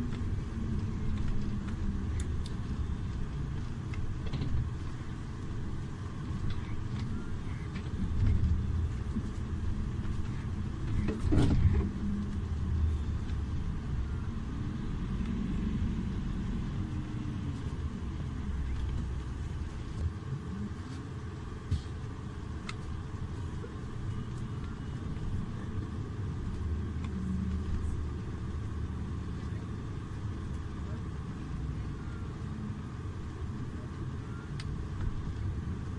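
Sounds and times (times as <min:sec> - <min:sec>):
bus engine low rumble: 0:00.0 - 0:35.9.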